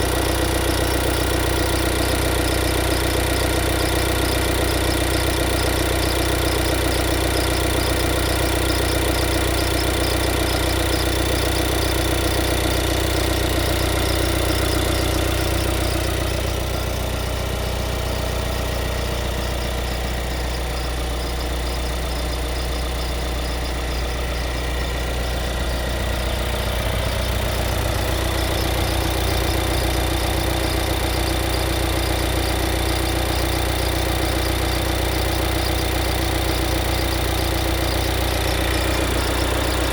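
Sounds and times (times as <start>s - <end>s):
car engine idling hum: 0.0s - 39.9s
pulsing engine noise: 0.0s - 39.9s.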